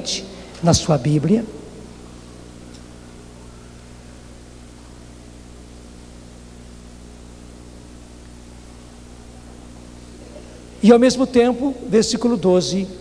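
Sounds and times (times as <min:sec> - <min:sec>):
low electrical hum: 0:00.0 - 0:13.0
steady hiss: 0:00.0 - 0:13.0.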